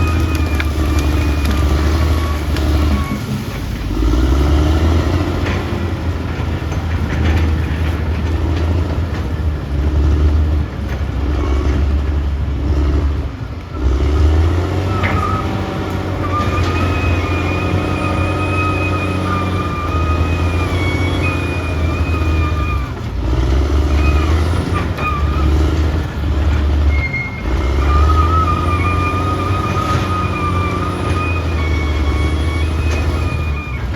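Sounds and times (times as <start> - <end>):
bulldozer diesel engine working: 0.0 - 33.9.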